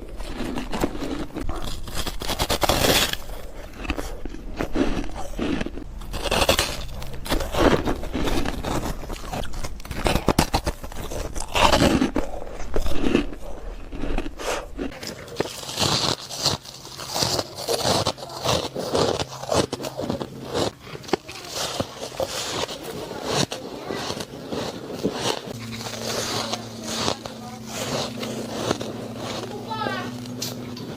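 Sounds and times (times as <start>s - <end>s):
ice crunching while chewed: 0.0s - 30.9s.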